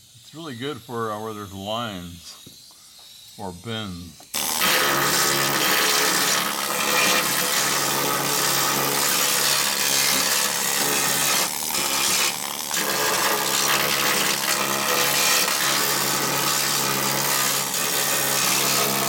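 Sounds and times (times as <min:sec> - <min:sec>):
power scaling tool chattering on steel: 0:00.4 - 0:19.0.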